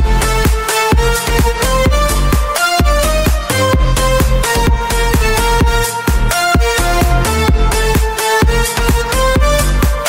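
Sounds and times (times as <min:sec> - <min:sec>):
background music with fast beat: 0:00.0 - 0:10.0.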